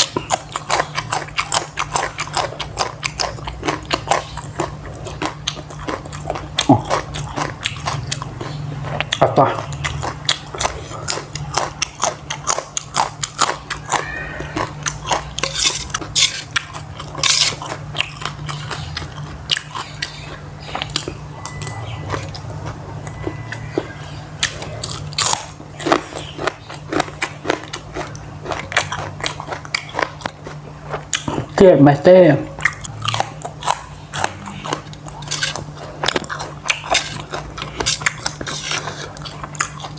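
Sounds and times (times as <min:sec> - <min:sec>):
person chewing food with crunches: 0:00.0 - 0:39.9.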